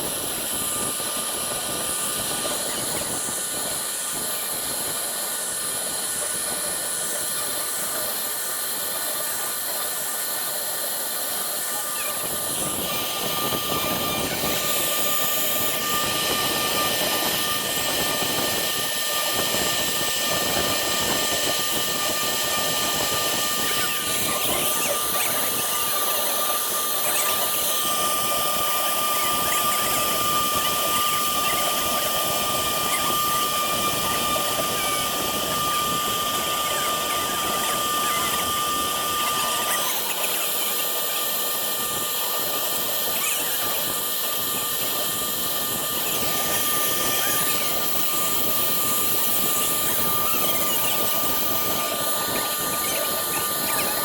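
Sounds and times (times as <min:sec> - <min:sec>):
router bit cutting wood: 0:00.0 - 0:54.0
router spindle whine: 0:00.0 - 0:54.0.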